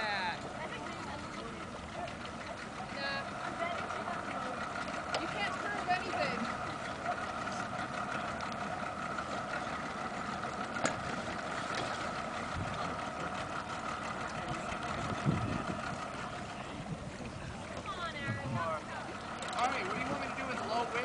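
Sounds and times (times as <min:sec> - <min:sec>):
motorboat engine idling: 0:00.0 - 0:21.0.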